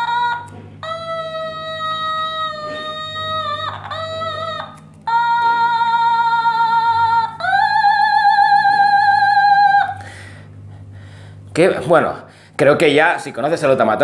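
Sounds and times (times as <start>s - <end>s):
electronic instrument sliding notes: 0.0s - 12.1s.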